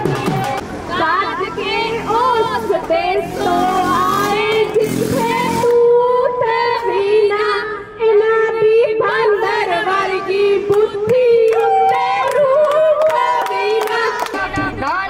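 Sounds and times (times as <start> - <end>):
women singing into microphone: 0.0 - 15.0.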